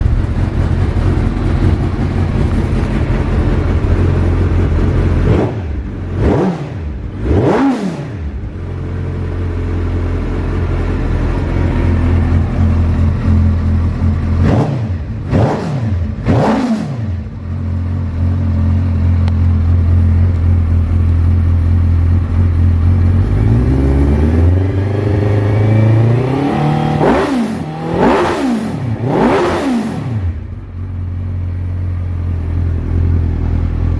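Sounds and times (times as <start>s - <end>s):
motorcycle engine idling: 0.0s - 25.8s, 27.5s - 33.9s
motorcycle throttle blips: 0.0s - 33.9s.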